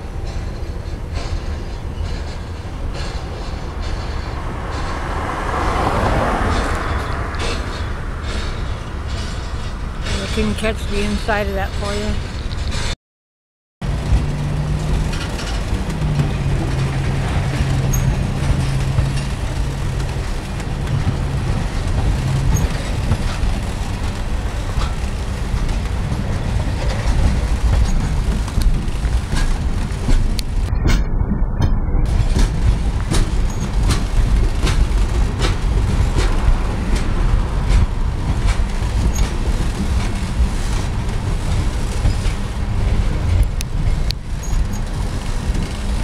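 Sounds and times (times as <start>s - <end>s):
freight train cars rolling past: 0.0s - 13.0s, 13.8s - 46.0s
wheels clicking and clanking: 0.1s - 12.9s, 13.8s - 46.0s.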